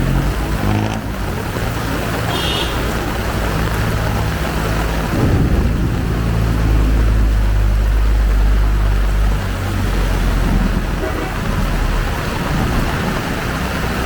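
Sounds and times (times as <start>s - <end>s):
heavy rain hissing: 0.0s - 14.0s
vehicle engine running: 0.0s - 14.0s.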